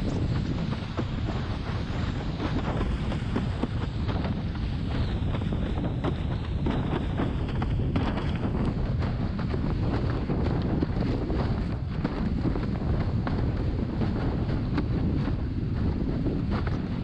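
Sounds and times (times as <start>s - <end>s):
rushing water and spray: 0.0s - 17.0s
wind buffeting microphone: 0.0s - 17.0s.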